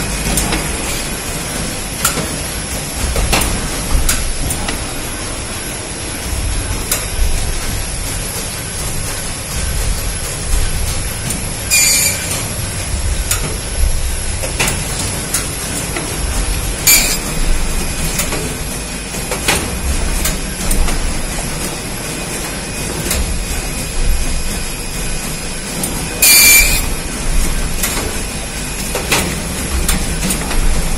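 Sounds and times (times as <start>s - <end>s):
binding machine mechanical rumble: 0.0s - 30.9s.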